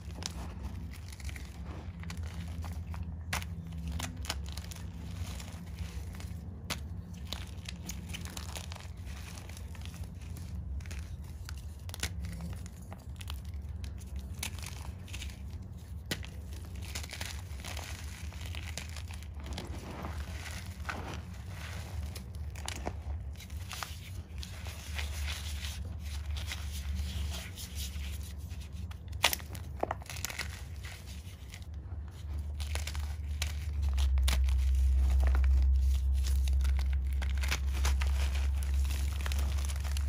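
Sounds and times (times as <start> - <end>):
chalk crunching and crumbling: 0.0 - 40.0.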